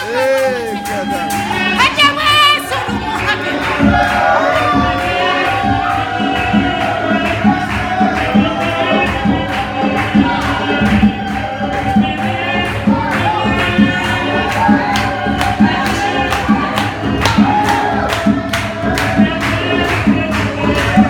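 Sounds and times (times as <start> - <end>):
group singing gospel: 0.0 - 21.0
percussion beat: 0.0 - 21.0.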